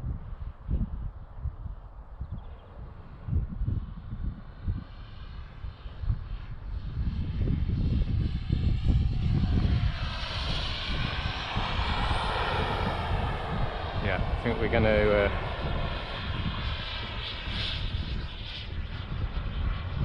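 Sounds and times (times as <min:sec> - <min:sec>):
wind rumbling on microphone: 0:00.0 - 0:20.0
model jet turbine whine: 0:02.4 - 0:20.0.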